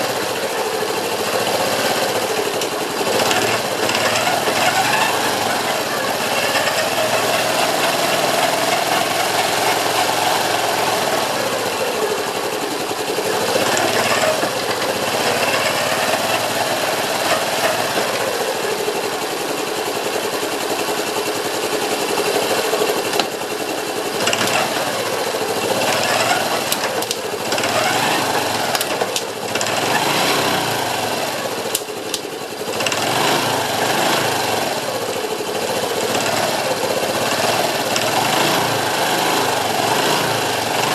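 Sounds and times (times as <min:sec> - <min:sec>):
motorcycle engine rattling: 0:00.0 - 0:40.9.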